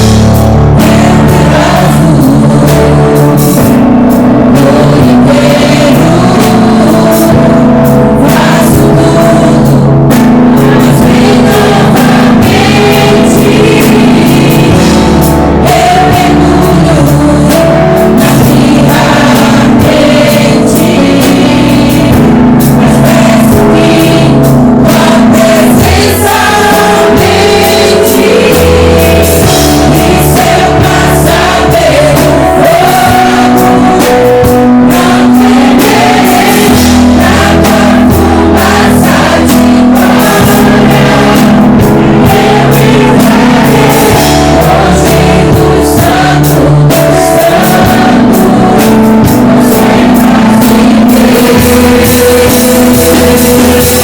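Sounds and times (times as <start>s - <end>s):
drums: 0.0s - 54.0s
many voices singing together: 0.0s - 54.0s
worship song with band: 0.0s - 54.0s.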